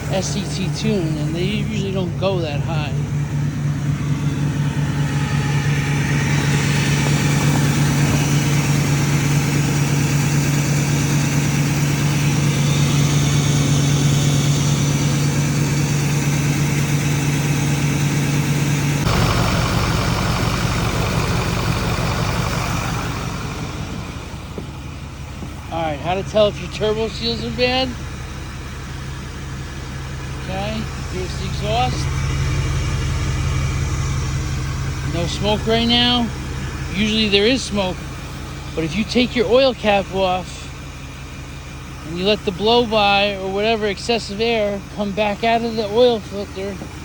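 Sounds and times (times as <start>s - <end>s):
diesel truck engine idling: 0.0s - 47.0s.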